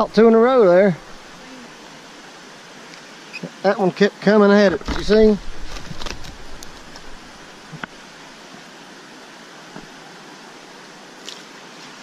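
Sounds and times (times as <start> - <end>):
river water hissing: 0.0 - 12.0.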